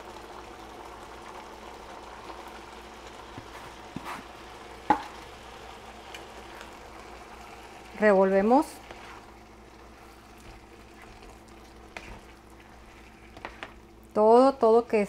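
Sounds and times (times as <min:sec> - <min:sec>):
stew bubbling in a pot: 0:00.0 - 0:14.6.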